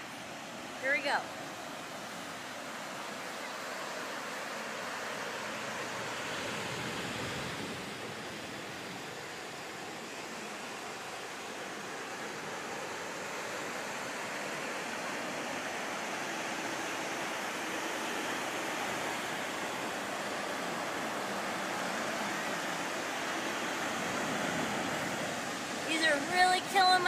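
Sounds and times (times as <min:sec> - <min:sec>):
ocean surf: 0:00.0 - 0:27.0.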